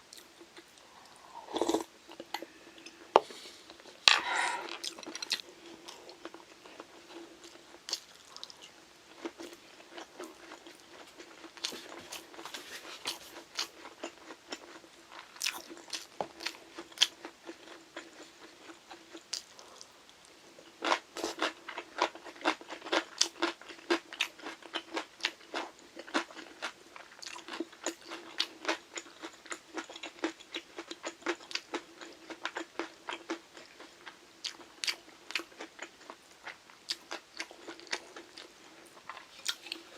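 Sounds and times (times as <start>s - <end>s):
faint steady hum: 0.0s - 39.9s
chewing and crunching: 4.6s - 19.9s, 20.6s - 39.9s.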